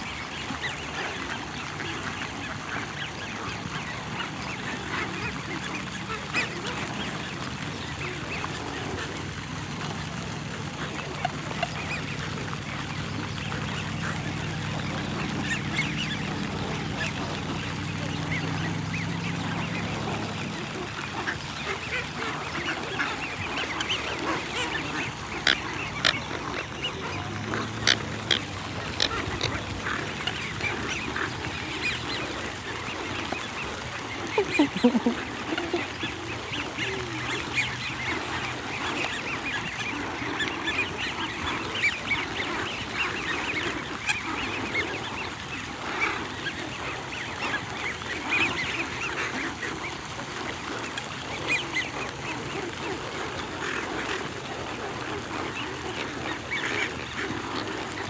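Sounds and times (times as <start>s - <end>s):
geese and ducks calling: 0.0s - 58.0s.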